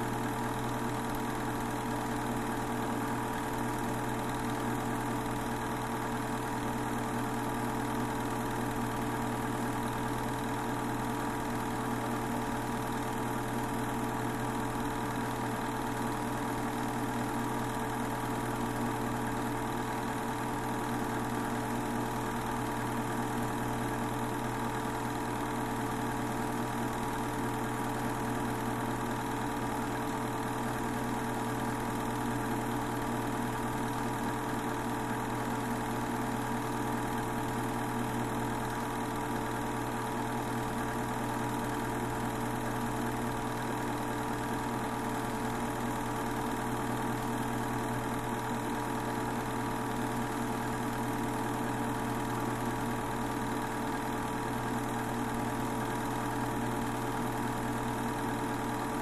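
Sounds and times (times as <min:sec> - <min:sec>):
film projector whirring: 0:00.0 - 0:59.0.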